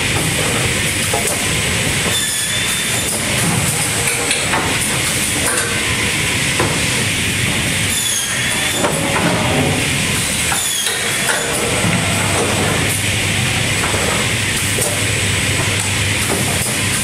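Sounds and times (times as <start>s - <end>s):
machine rumble and hiss: 0.0s - 17.0s.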